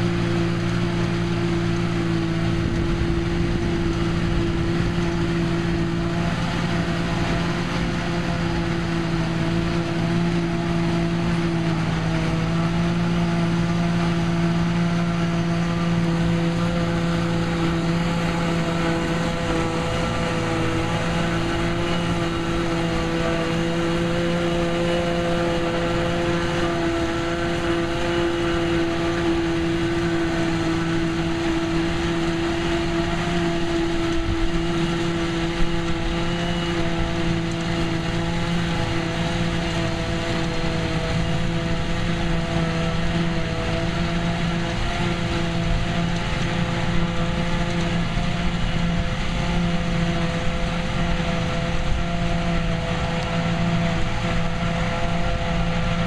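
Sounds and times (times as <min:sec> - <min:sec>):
forage harvester chopping grass: 0:00.0 - 0:56.0
tractor running under load: 0:00.0 - 0:56.0.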